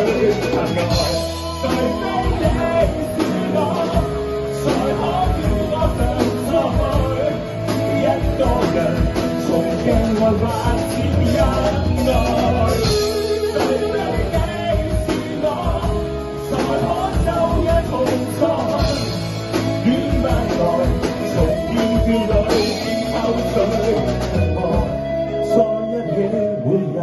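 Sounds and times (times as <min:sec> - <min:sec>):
drum kit: 0:00.0 - 0:27.0
electric guitar: 0:00.0 - 0:27.0
man singing into a microphone: 0:00.0 - 0:27.0.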